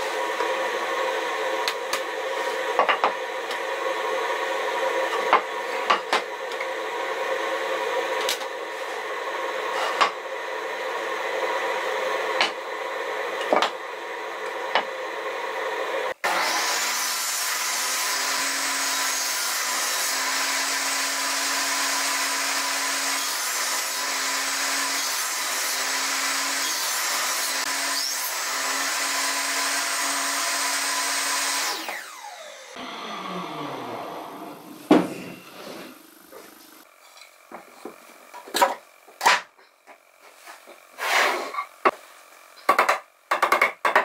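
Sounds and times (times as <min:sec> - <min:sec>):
power tool machine hum: 0:00.0 - 0:36.9.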